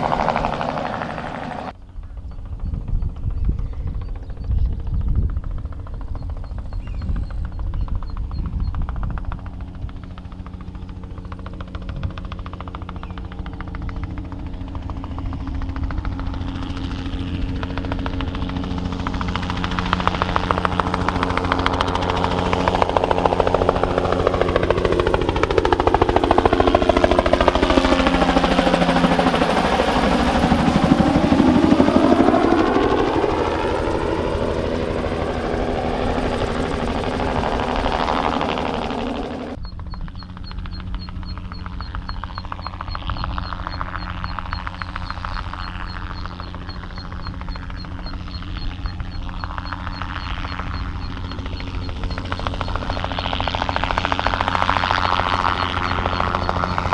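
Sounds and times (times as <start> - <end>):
helicopter rotor beating: 0.0 - 56.9.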